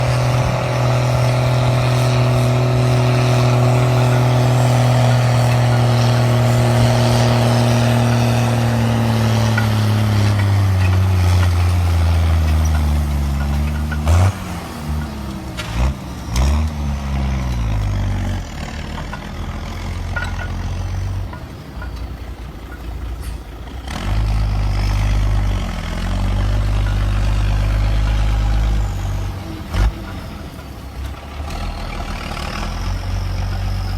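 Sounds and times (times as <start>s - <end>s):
diesel engine revving: 0.0s - 33.9s.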